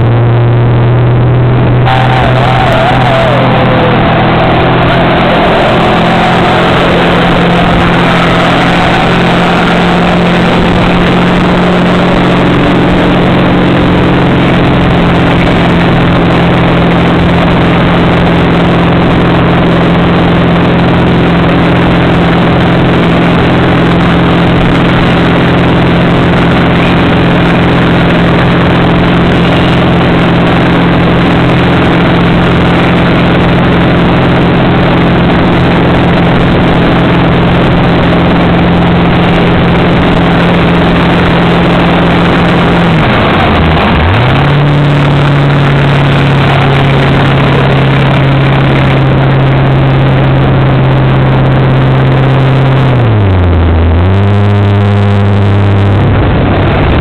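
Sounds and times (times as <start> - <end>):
boat engine drone: 0.0 - 57.0
rushing wind: 0.0 - 57.0
water rushing from wake: 1.6 - 57.0.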